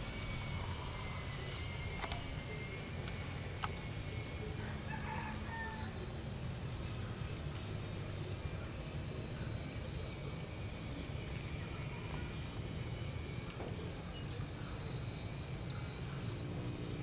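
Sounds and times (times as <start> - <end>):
insect chirps: 0.0 - 17.0
insects droning: 0.0 - 17.0.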